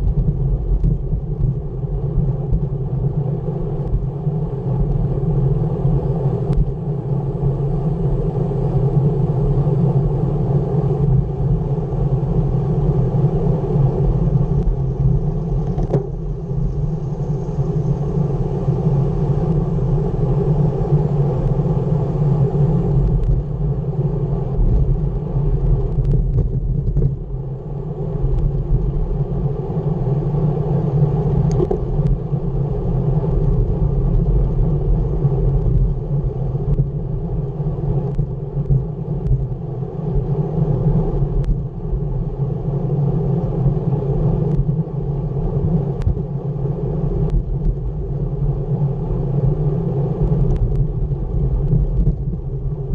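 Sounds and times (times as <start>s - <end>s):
bike tyres rumbling on asphalt: 0.0s - 7.7s, 8.6s - 52.9s
wind buffeting microphone: 0.0s - 52.9s.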